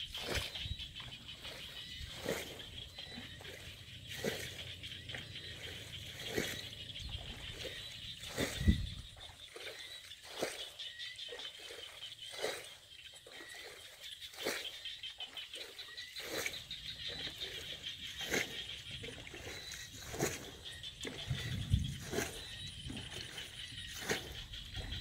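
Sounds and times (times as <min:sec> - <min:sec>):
water splashing and sloshing: 0:00.0 - 0:25.0.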